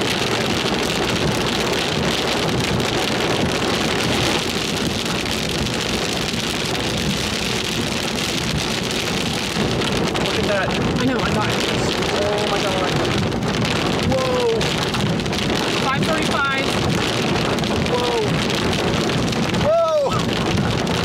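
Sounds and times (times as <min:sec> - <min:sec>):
rain on a car: 0:00.0 - 0:21.0
tyres on wet road: 0:00.0 - 0:21.0.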